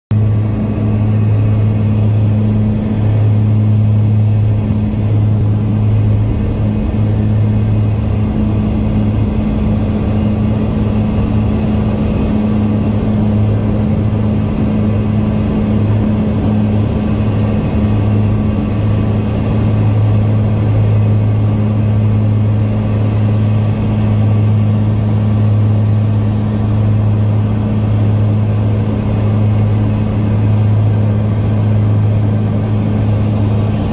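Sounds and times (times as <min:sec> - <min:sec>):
jet engines roaring in cabin: 0:00.1 - 0:33.9.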